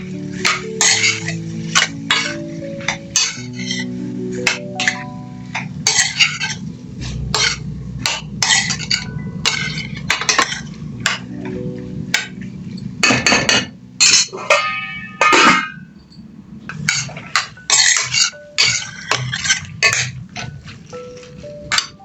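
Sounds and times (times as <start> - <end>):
metal utensils clattering: 0.0 - 22.0.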